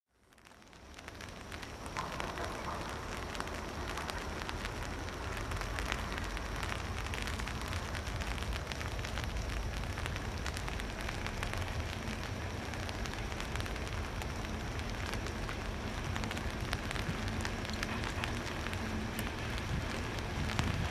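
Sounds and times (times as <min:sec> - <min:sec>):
rain pattering: 0:00.1 - 0:20.9.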